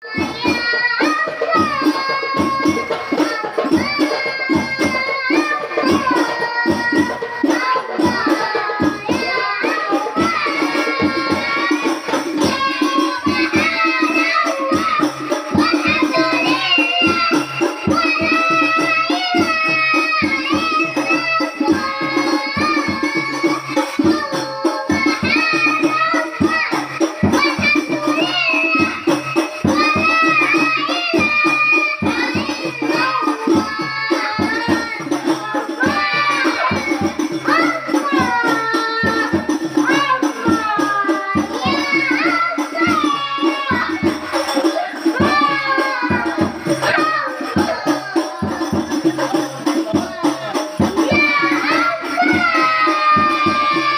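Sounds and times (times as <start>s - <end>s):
children singing a duet: 0.0s - 53.9s
fast percussion beat: 0.0s - 53.9s.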